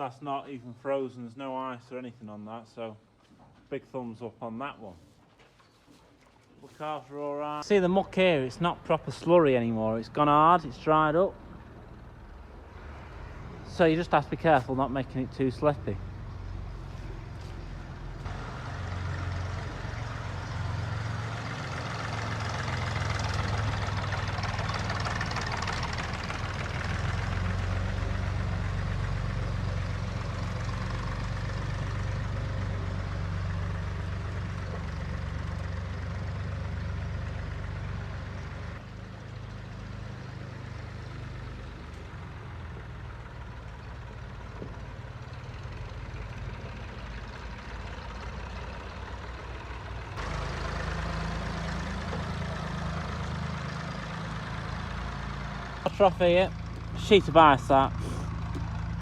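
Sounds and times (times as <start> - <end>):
vehicle engine running: 7.7 - 59.0.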